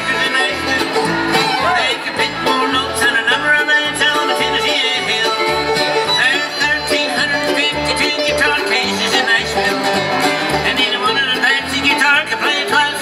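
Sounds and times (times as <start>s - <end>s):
bluegrass band playing: 0.0s - 13.0s
upright bass thumping: 0.0s - 13.0s.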